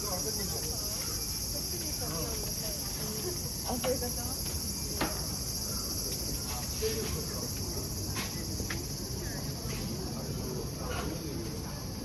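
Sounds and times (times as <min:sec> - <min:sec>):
faint voices: 0:00.0 - 0:12.0
insects droning: 0:00.0 - 0:12.0.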